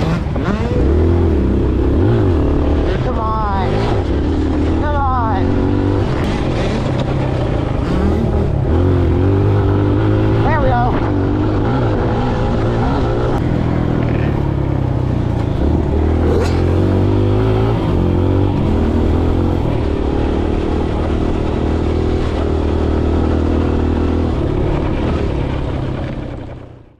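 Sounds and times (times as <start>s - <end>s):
dirt bike engine revving: 0.0s - 26.7s.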